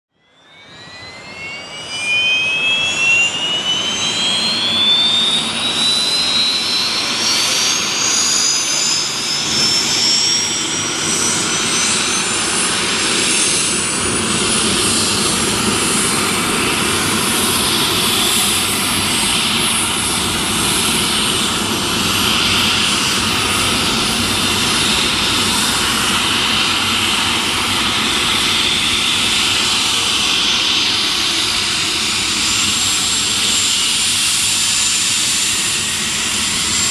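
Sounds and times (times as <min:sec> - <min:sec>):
helicopter turbine whine: 0:00.1 - 0:36.9.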